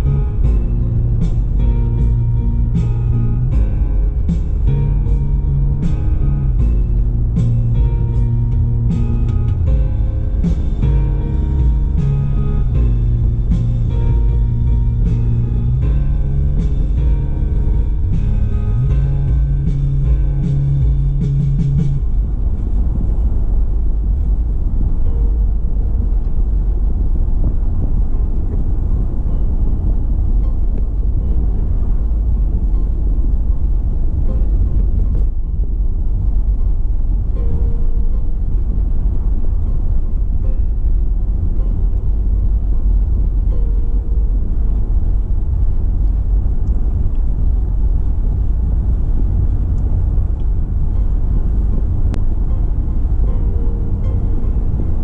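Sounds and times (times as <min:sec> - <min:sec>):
car driving on road: 0:00.0 - 0:55.0.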